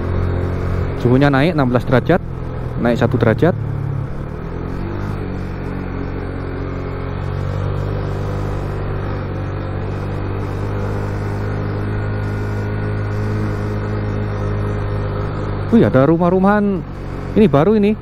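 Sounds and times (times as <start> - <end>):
motorcycle engine cruising: 0.0 - 18.0
road and wind noise: 0.0 - 18.0.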